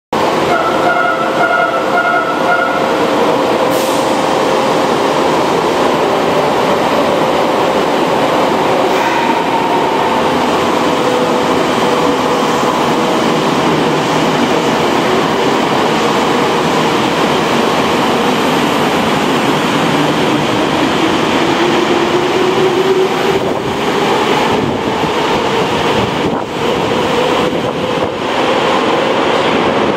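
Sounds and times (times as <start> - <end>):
subway train rumbling: 0.1 - 29.9.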